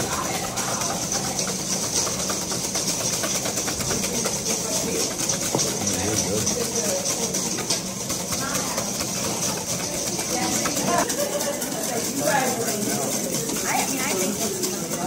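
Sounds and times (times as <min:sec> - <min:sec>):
whisk clicking in metal bowl: 0:00.0 - 0:15.0.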